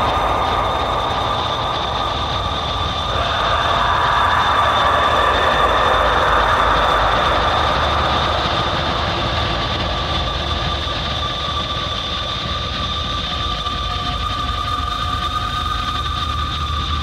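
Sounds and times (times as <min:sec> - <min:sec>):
dark ambient drone: 0:00.0 - 0:17.0.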